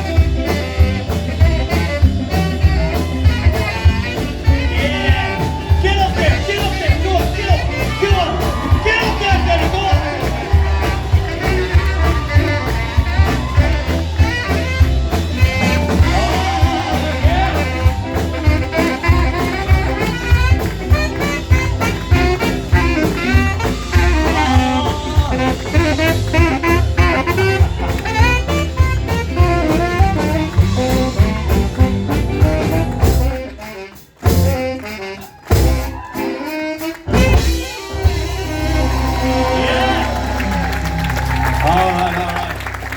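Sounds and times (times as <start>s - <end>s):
swing jazz band playing: 0.0s - 42.9s.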